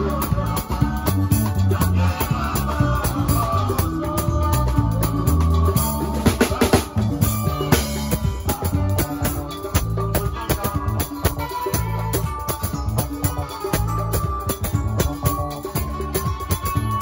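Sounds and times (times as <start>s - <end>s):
drum kit with snare and cymbal hits: 0.0s - 17.0s
electric bass: 0.0s - 17.0s
electric guitar: 0.0s - 17.0s
keyboard: 0.0s - 17.0s.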